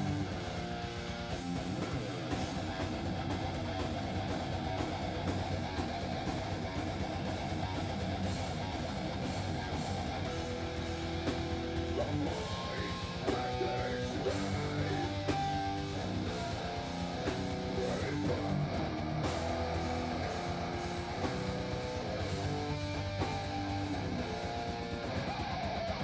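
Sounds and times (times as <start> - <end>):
bass guitar: 0.0 - 26.0
distorted electric guitar: 0.0 - 26.0
fast driving drums: 0.0 - 26.0.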